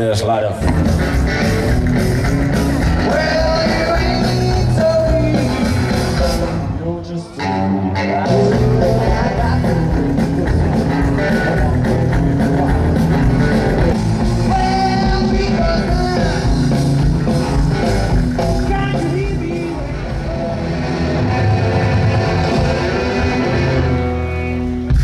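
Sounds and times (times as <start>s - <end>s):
rock and roll music: 0.0s - 25.0s.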